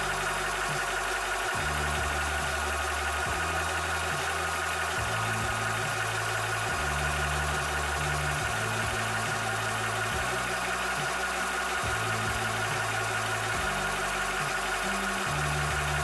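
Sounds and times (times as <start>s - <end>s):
air compressor humming and hissing: 0.0s - 16.0s.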